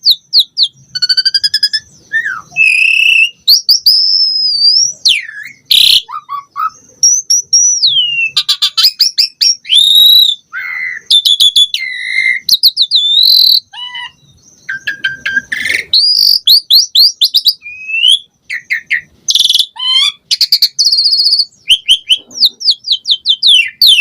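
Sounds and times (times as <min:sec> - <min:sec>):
starling singing: 0:00.0 - 0:24.0.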